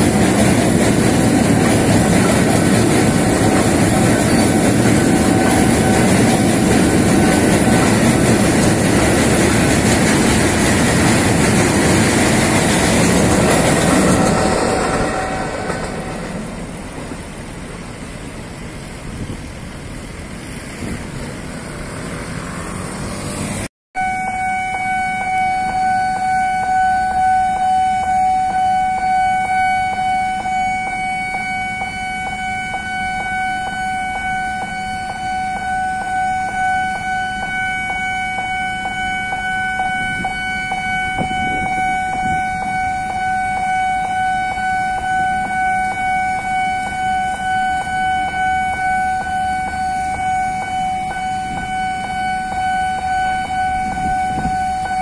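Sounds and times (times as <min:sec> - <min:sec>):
level crossing alarm: 0:00.0 - 0:16.4, 0:24.0 - 0:55.0
street traffic: 0:00.0 - 0:55.0.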